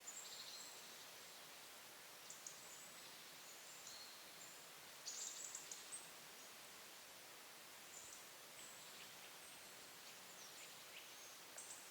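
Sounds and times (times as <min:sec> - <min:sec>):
forest ambience hiss: 0:00.0 - 0:11.9.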